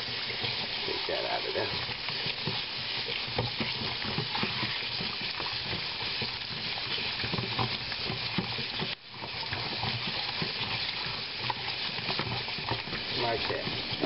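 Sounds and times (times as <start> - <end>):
faucet running onto meat: 0.0 - 8.8, 9.6 - 14.0.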